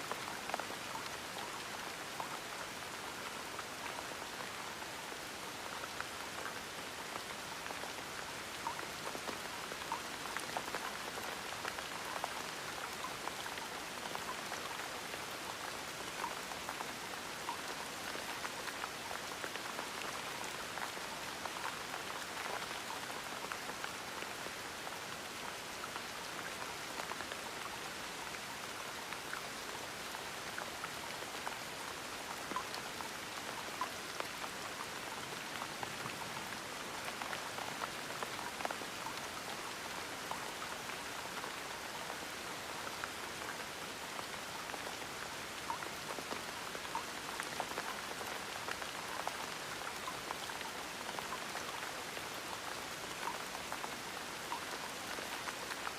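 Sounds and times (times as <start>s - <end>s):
gentle rain: 0.0s - 55.9s.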